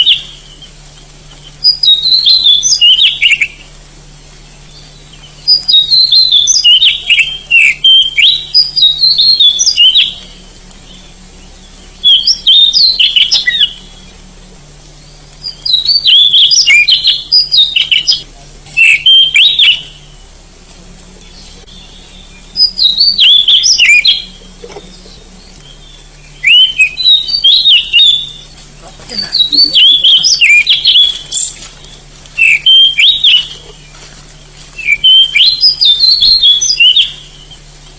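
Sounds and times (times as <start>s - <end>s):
bird singing varied whistles: 0.0s - 3.7s, 4.5s - 14.2s, 15.0s - 20.3s, 21.3s - 33.9s, 34.8s - 37.7s.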